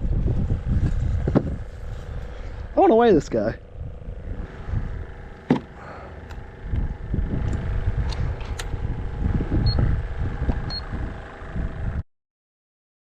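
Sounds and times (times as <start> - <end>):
faint steady hum: 0.0 - 12.0
wind rumbling on microphone: 0.0 - 12.0.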